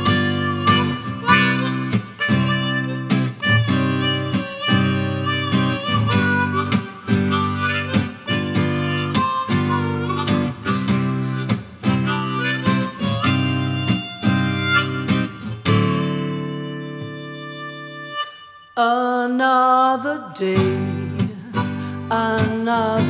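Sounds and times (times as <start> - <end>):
strummed acoustic guitar chords: 0.0 - 18.6, 20.6 - 23.0
harmonica solo: 0.0 - 19.2, 21.4 - 22.4.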